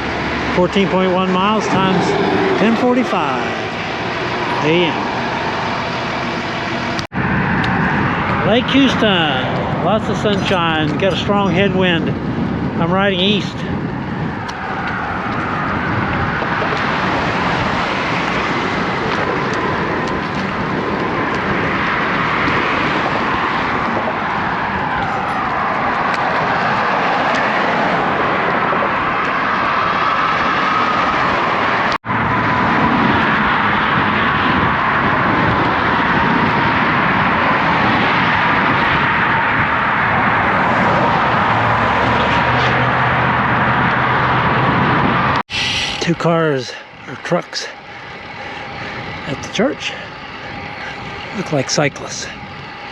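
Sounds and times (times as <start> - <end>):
highway traffic passing: 0.0 - 52.9
strong wind over microphone: 0.0 - 52.9.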